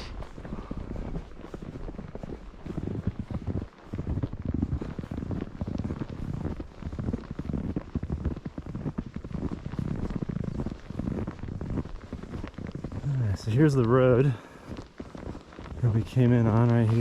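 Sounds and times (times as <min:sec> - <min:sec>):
footsteps crunching through snow: 0:00.0 - 0:17.0
wind buffeting microphone: 0:00.0 - 0:17.0.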